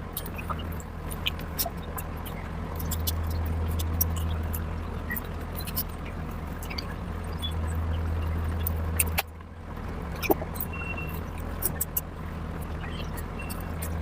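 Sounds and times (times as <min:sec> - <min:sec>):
low steady hum: 0:00.0 - 0:14.0
chewing and mouth smacks: 0:00.1 - 0:07.6, 0:08.3 - 0:09.4, 0:10.1 - 0:14.0.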